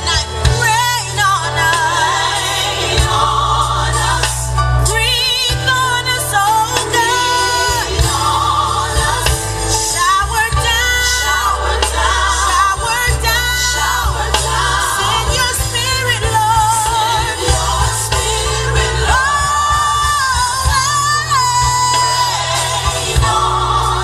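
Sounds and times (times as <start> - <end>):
steady bass line: 0.0 - 24.0.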